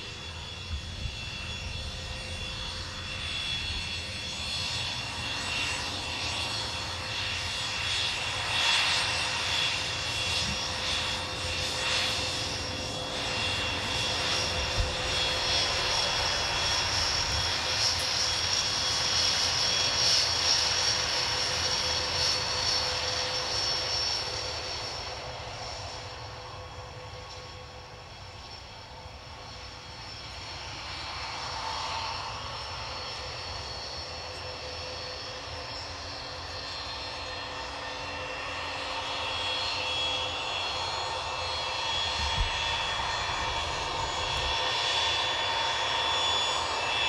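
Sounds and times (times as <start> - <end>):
jet engines whining at taxi: 0.0 - 47.0.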